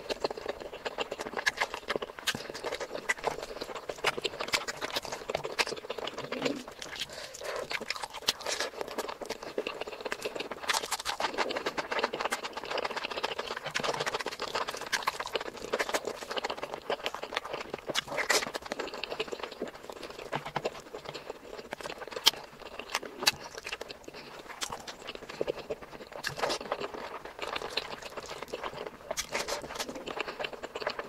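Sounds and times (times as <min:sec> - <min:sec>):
wet chewing clicks and smacks: 0:00.0 - 0:31.0.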